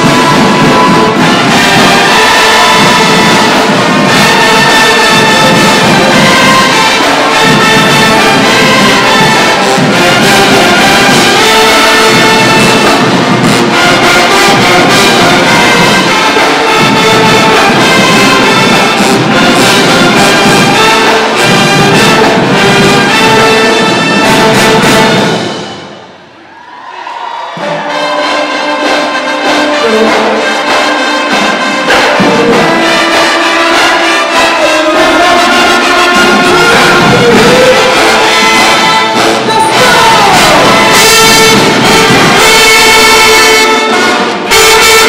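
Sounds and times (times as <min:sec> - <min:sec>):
drum beat: 0:00.0 - 0:26.2, 0:27.4 - 0:45.0
marching band horns playing: 0:00.0 - 0:45.0.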